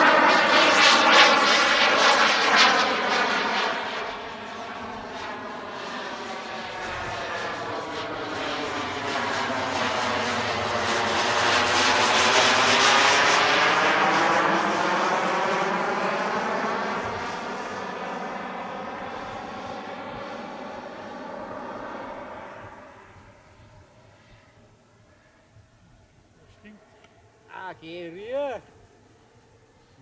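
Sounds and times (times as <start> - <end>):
model jet turbine flying past: 0.0 - 25.5.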